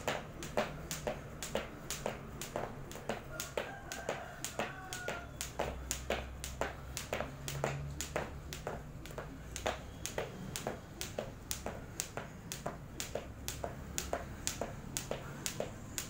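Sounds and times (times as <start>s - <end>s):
jump rope tapping floor: 0.0s - 16.0s.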